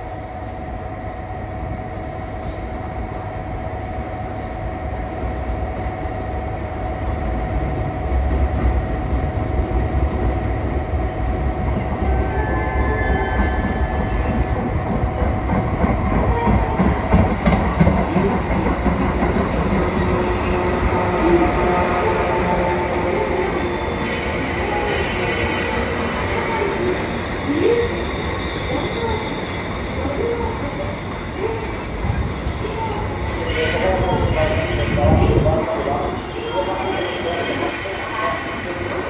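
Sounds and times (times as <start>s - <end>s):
train rumble and wheel clatter: 0.0s - 39.0s.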